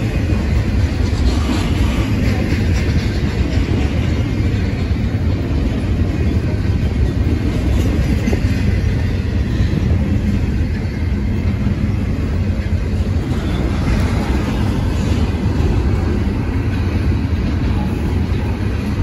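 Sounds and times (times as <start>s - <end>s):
freight train rolling over rails: 0.0s - 19.0s.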